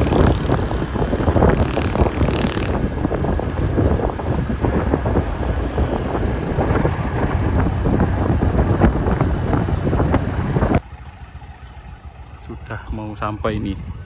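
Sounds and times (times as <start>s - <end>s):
wind buffeting microphone: 0.0s - 10.8s, 11.6s - 14.0s
vehicle road noise: 0.0s - 14.0s.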